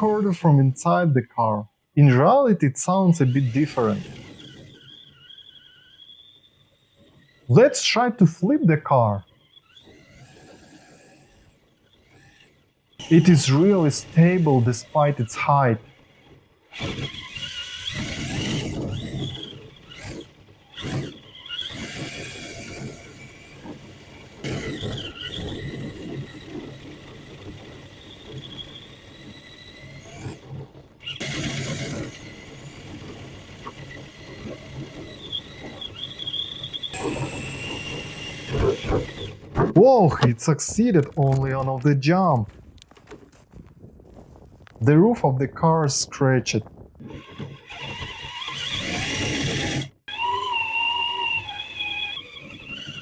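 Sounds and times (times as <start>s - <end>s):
chassis rumble and rattle: 0.0s - 7.6s, 9.2s - 44.9s, 46.6s - 50.2s
rc car motor whining: 0.0s - 39.7s, 47.0s - 53.0s.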